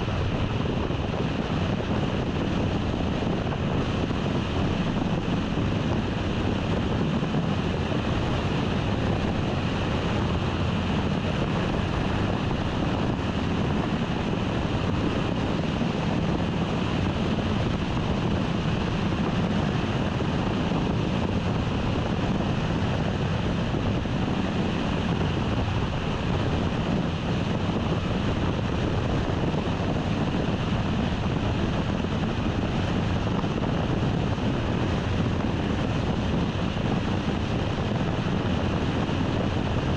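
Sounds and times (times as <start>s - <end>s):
car road and wind noise: 0.0s - 39.9s.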